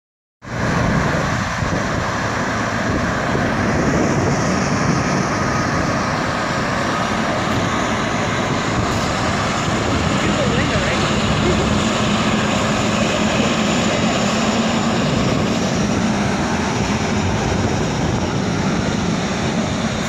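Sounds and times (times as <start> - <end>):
jet engines roaring: 0.4 - 20.0.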